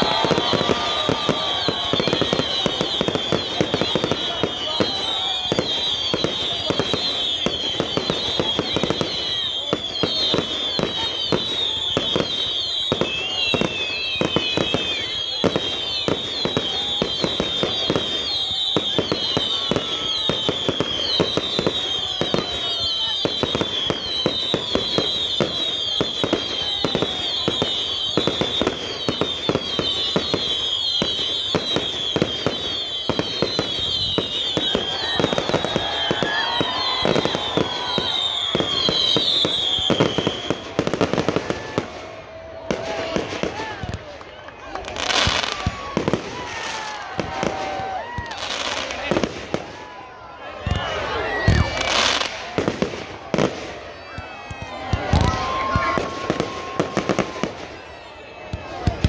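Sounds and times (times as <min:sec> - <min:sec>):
shrill firework whistling: 0:00.0 - 0:44.1, 0:44.7 - 0:59.0
firework bangs and crackling: 0:00.0 - 0:59.0.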